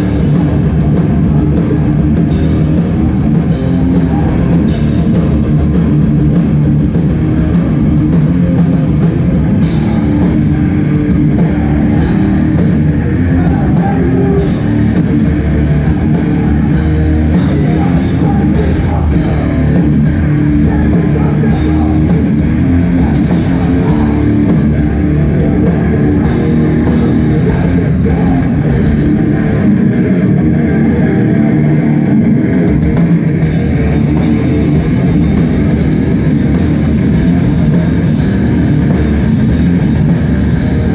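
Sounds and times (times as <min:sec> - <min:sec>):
bass guitar: 0:00.0 - 0:40.9
distorted electric guitars: 0:00.0 - 0:40.9
pounding drum kit: 0:00.0 - 0:40.9.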